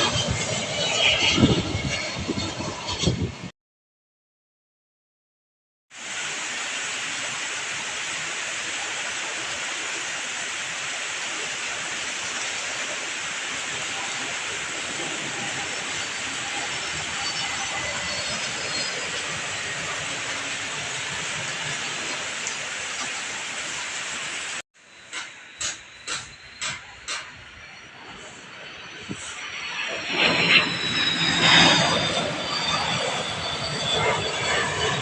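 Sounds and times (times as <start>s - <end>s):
jet engines roaring: 0.0s - 3.5s, 6.0s - 35.0s.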